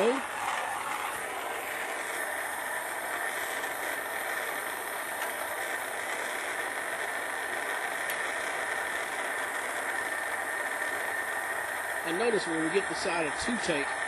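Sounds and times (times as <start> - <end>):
gas torch hissing: 0.0 - 14.0.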